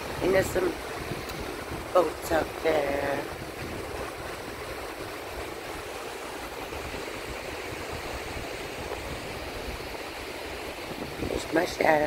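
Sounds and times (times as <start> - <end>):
lake waves washing on sand: 0.0 - 12.0.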